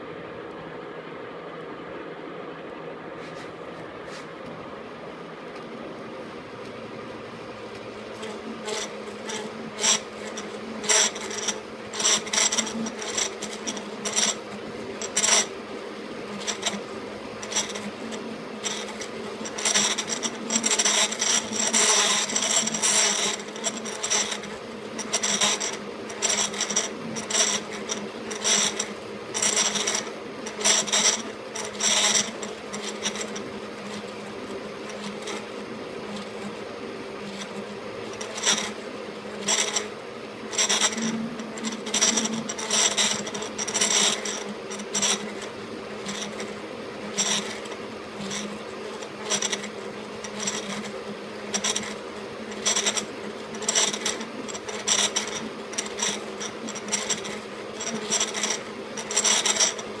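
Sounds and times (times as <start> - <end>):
lathe humming: 0.1 - 60.0
metal being cut scraping: 7.7 - 60.0.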